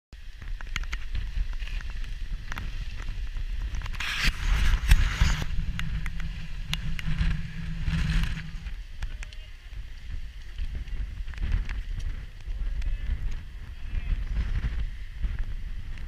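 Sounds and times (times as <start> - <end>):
wind buffeting microphone: 0.2 - 16.0.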